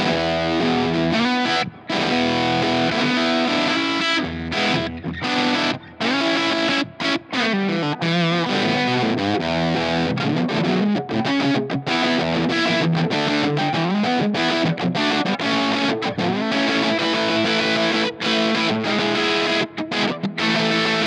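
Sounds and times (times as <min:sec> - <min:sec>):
distorted fuzz electric guitar: 0:00.0 - 0:21.0.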